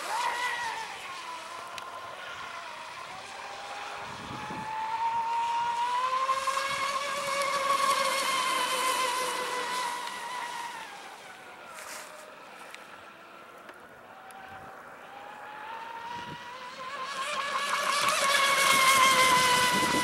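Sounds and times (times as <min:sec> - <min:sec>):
electric motor whine: 0:00.0 - 0:20.0.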